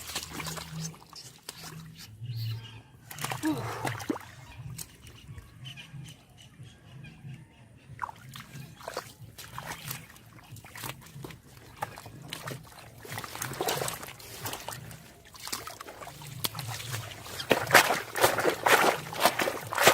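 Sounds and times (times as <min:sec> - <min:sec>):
water splashing and sloshing: 0:00.0 - 0:06.4, 0:07.8 - 0:19.9.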